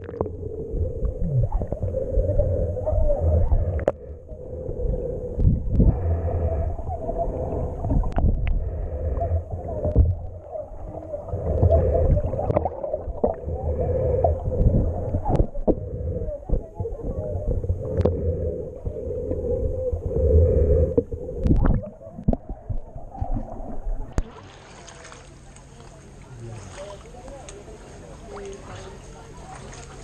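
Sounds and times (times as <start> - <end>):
muffled underwater rumble: 0.0 - 30.0.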